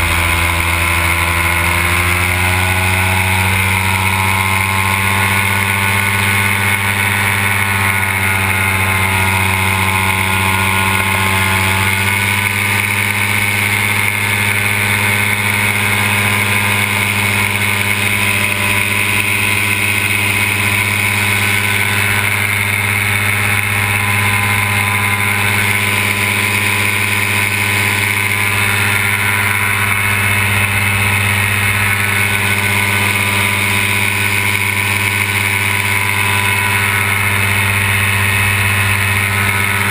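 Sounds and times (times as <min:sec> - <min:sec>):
paramotor engine and propeller running: 0:00.0 - 0:39.9.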